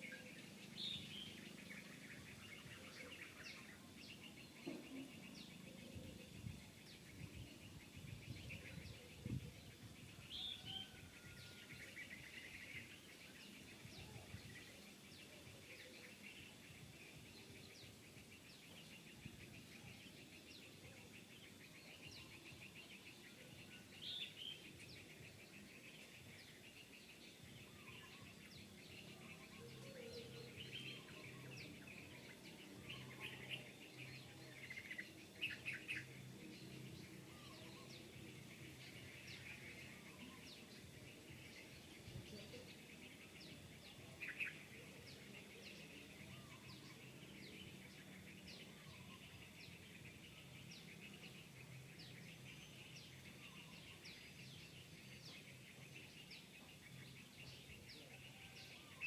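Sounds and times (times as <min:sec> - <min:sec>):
bird chirps: 0:00.0 - 0:59.0.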